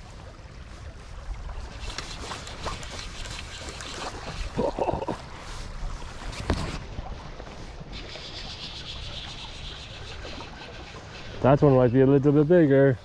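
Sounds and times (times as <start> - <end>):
shallow stream rushing: 0.0 - 13.0
wind rumbling on microphone: 0.0 - 13.0.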